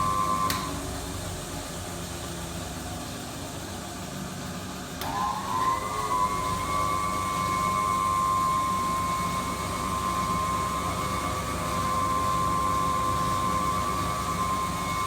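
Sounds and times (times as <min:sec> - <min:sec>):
washing machine whining: 0:00.0 - 0:15.0.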